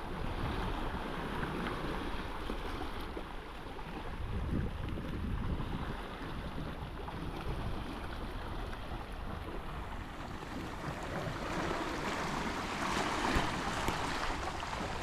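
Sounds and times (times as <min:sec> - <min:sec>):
water splashing around a kayak: 0:00.0 - 0:15.0
wind rumbling on microphone: 0:00.0 - 0:15.0.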